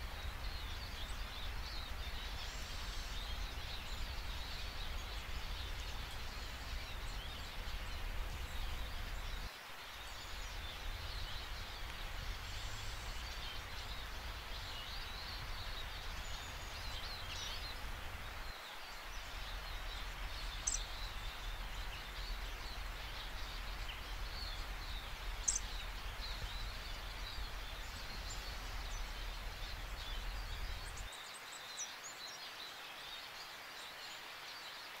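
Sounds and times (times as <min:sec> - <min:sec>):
steady hiss: 0:00.0 - 0:35.0
bird chirps: 0:00.1 - 0:31.2.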